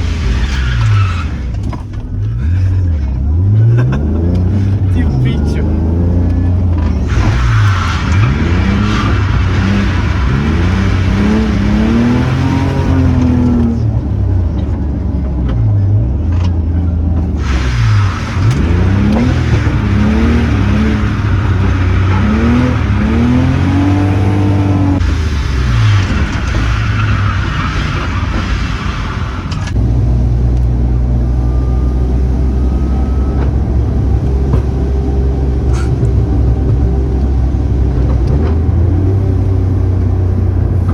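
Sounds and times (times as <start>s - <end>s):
car engine revving through gears: 0.0s - 40.9s.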